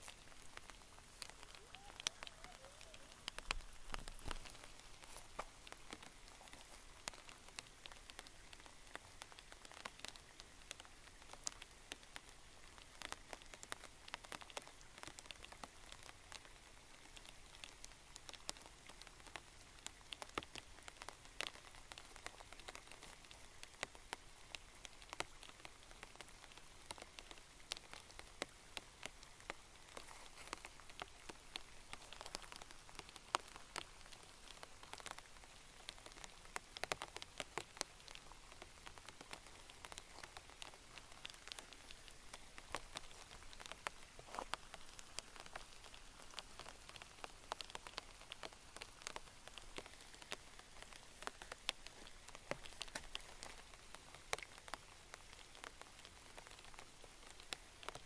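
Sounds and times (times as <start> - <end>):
rain hissing: 0.0 - 58.0
raindrops ticking: 0.0 - 58.0.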